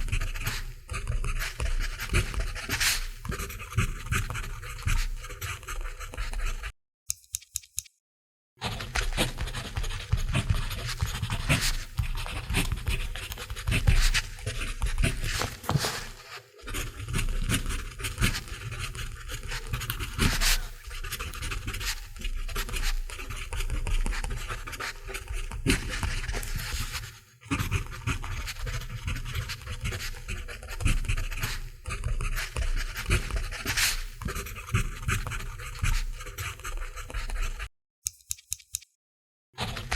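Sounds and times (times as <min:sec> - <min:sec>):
pencil writing on paper: 0:00.0 - 0:06.7, 0:08.6 - 0:38.8, 0:39.6 - 0:39.9.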